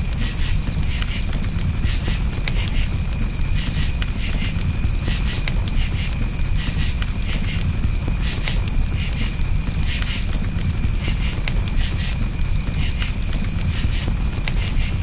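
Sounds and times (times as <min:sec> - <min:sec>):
campfire crackling and popping: 0:00.0 - 0:15.0
crickets chirping: 0:00.0 - 0:15.0.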